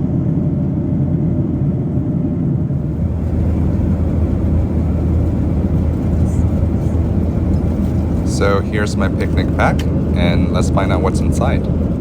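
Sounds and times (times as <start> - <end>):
air rushing along fuselage: 0.0 - 12.0
jet engine drone: 0.0 - 12.0.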